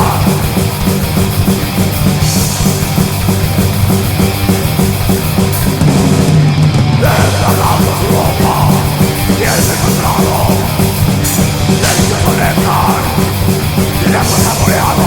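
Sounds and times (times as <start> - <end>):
loud heavy rock music: 0.0 - 15.0.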